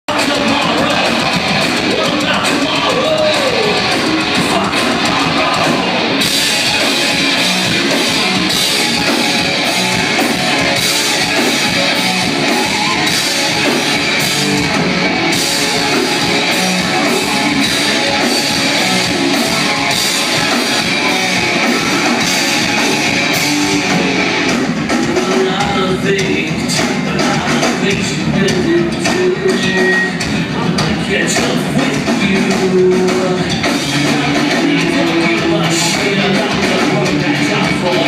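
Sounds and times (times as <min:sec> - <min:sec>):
distorted electric guitars: 0:00.0 - 0:38.0
drum kit: 0:00.1 - 0:38.0.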